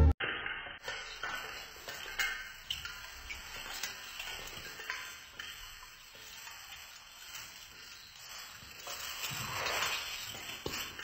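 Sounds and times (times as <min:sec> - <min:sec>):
ornaments clicking and tapping: 0:00.8 - 0:11.0
rustling of tree branches: 0:00.9 - 0:11.0.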